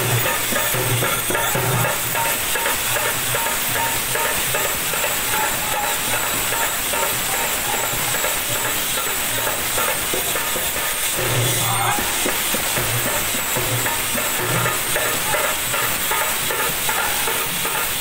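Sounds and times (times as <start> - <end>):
metallic jingling: 0.0 - 17.2
hand-beaten barrel drum: 0.0 - 18.0.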